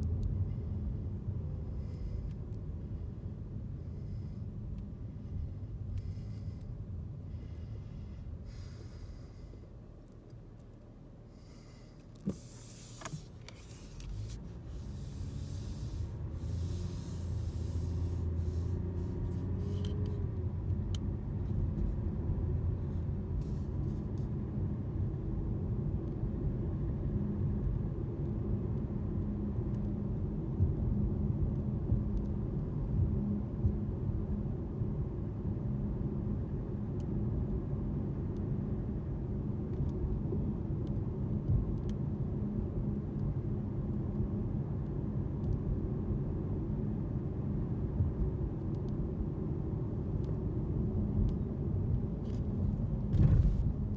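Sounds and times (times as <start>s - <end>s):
road noise: 0.0s - 53.9s
steady low hum: 0.0s - 53.9s.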